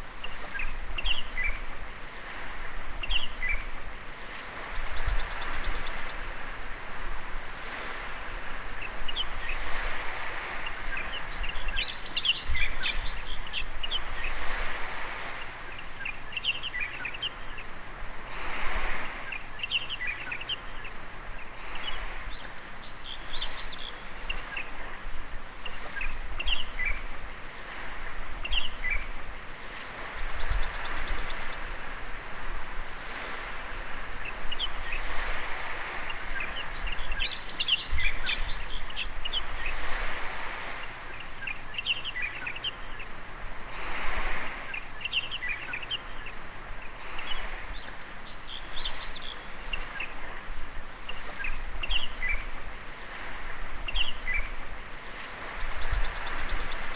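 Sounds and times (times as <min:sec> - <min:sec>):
sea waves washing onto beach: 0:00.0 - 0:56.9
small birds chirping: 0:02.9 - 0:06.6, 0:07.6 - 0:17.8, 0:18.8 - 0:25.0, 0:25.6 - 0:32.3, 0:33.1 - 0:43.3, 0:44.0 - 0:56.9.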